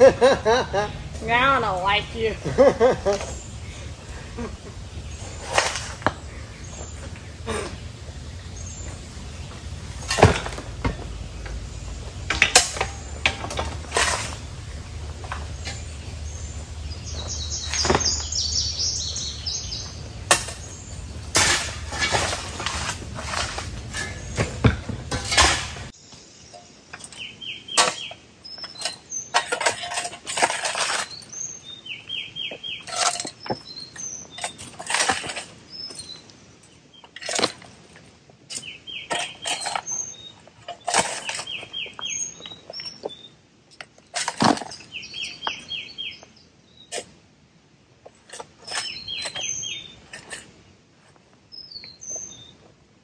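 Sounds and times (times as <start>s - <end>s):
birds chirping: 0.0s - 52.8s
shovels scraping rocky dirt: 0.1s - 46.2s, 48.0s - 51.2s.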